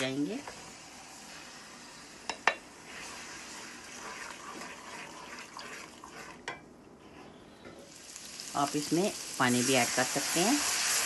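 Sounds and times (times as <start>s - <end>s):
spices sizzling in hot oil: 0.0s - 6.5s, 7.9s - 11.0s.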